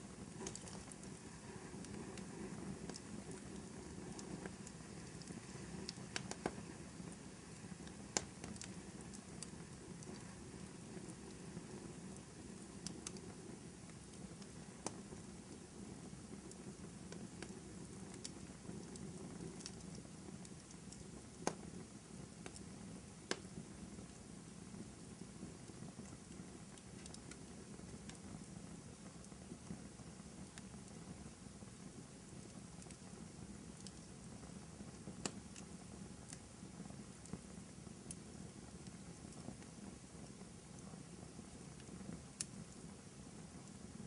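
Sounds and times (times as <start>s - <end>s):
burning wood rumble: 0.0s - 44.0s
fire popping and snapping: 0.0s - 44.0s.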